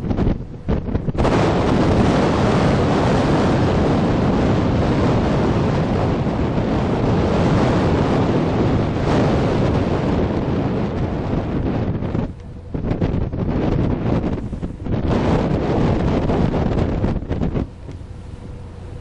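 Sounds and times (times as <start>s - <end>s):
sea water rushing along hull: 0.0s - 19.0s
wind buffeting microphone: 0.0s - 19.0s.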